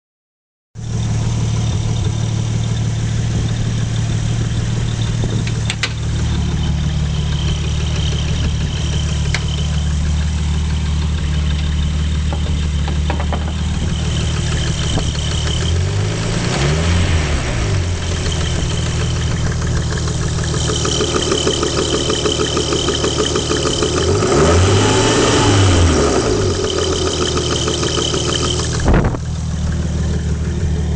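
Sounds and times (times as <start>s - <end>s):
car engine idling: 0.8s - 30.9s.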